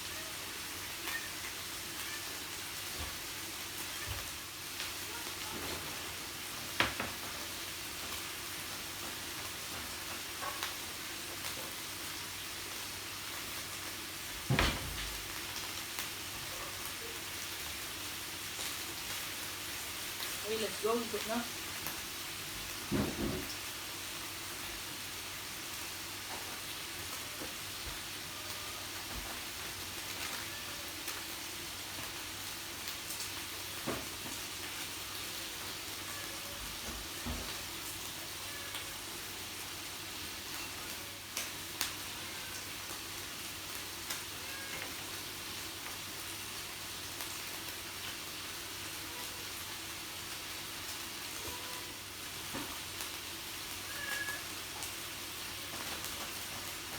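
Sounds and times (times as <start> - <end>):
meat sizzling on a grill: 0.0 - 56.9.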